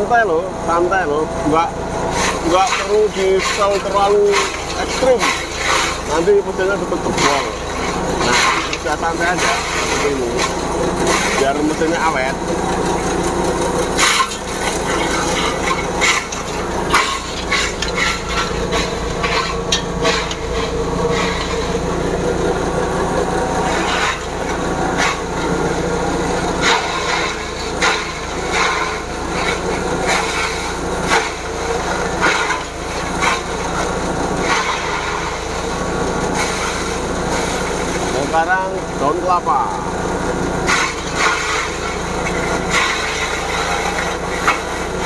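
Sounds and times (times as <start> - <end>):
engine drone: 0.0 - 45.0
blades cracking sugarcane stalks: 2.0 - 39.5, 40.6 - 45.0.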